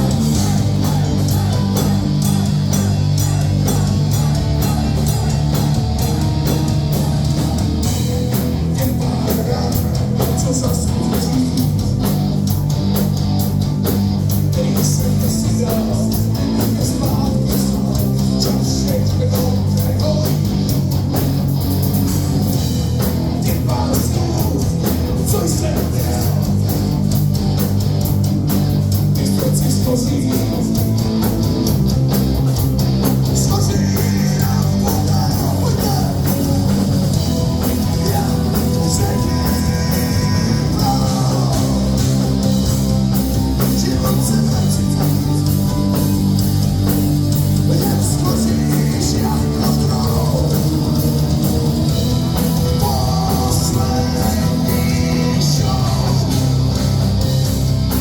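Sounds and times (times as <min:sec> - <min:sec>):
rock music with singing: 0:00.0 - 0:58.0.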